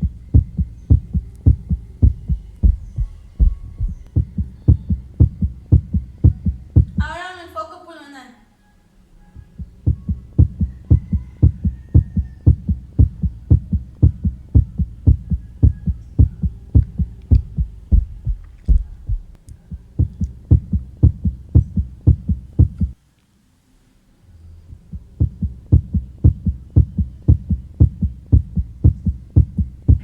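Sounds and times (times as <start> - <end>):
heartbeat through stethoscope: 0.0 - 7.1, 9.4 - 23.0, 24.7 - 30.0.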